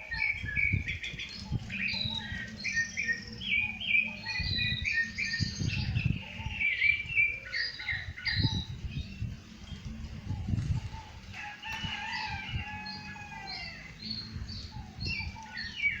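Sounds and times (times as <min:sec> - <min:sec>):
drawn-out bird call: 0:00.0 - 0:16.0.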